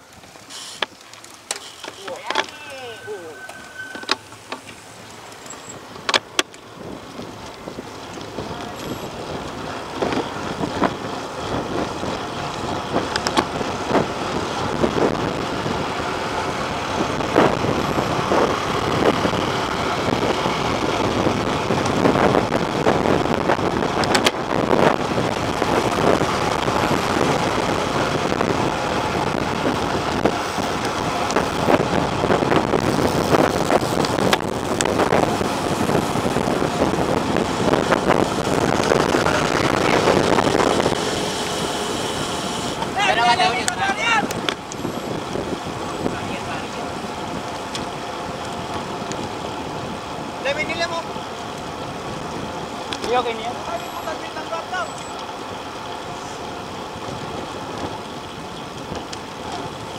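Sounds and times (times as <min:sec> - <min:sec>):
road and tyre noise: 0:00.0 - 0:59.9
wind rushing over microphone: 0:02.2 - 0:59.9.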